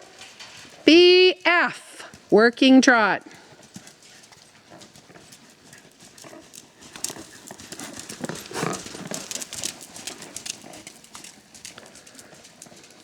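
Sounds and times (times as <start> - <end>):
horse hooves trotting: 0.0 - 13.0.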